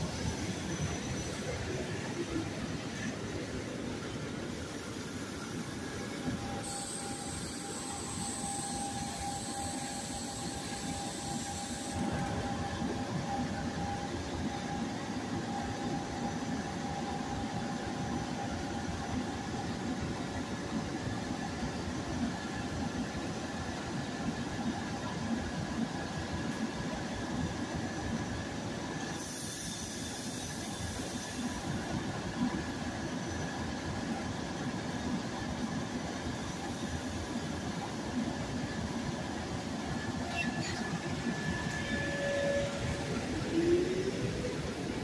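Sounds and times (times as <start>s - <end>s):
electric railcar equipment humming: 0.0s - 45.0s
thin steady whine: 0.0s - 45.0s.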